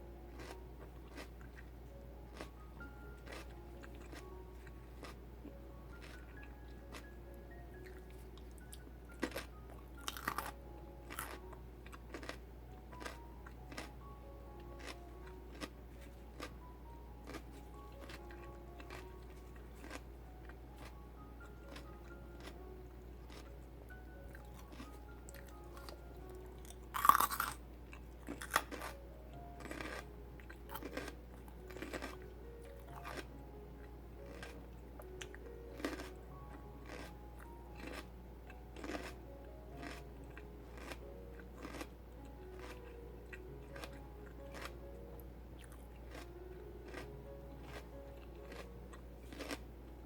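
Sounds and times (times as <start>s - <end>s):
celery crunching while chewed: 0.0s - 50.0s.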